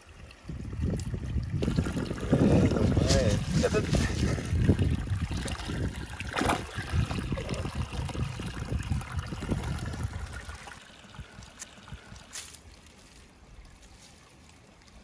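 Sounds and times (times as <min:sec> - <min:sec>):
stream trickling: 0:00.0 - 0:15.0.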